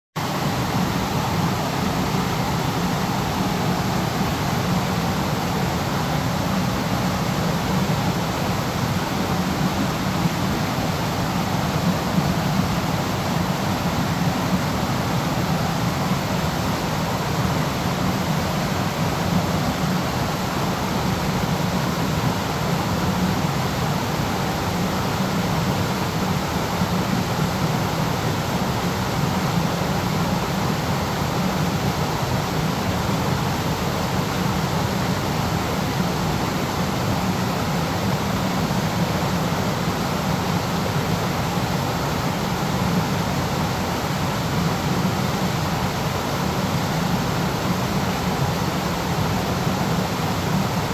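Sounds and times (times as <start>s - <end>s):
waterfall rushing: 0.2s - 50.9s.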